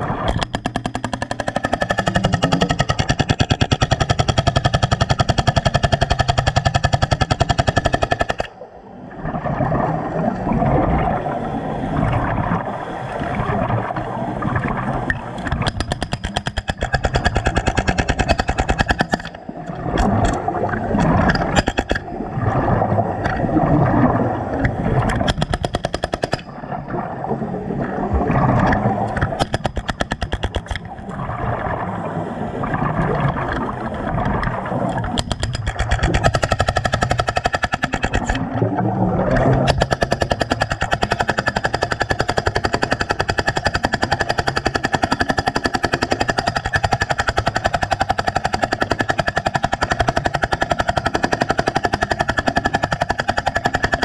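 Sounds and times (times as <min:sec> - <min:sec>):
jackhammer hammering underwater: 0:00.0 - 0:08.6, 0:15.1 - 0:26.7, 0:28.1 - 0:31.2, 0:32.8 - 0:38.5, 0:39.1 - 0:54.0.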